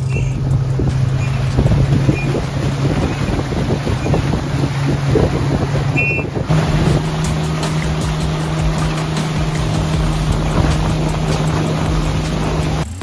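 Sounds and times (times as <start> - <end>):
wind buffeting microphone: 0.0 - 12.8
outboard motor humming: 0.0 - 13.0.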